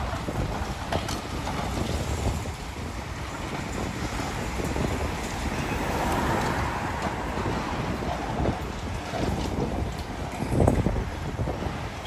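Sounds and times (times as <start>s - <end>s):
excavator rumbling: 0.0s - 12.0s.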